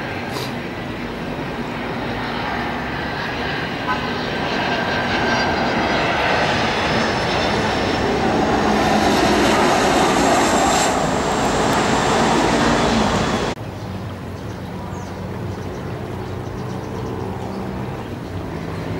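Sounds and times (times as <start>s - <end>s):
jet airliner passing overhead: 0.0s - 13.6s, 14.4s - 18.9s.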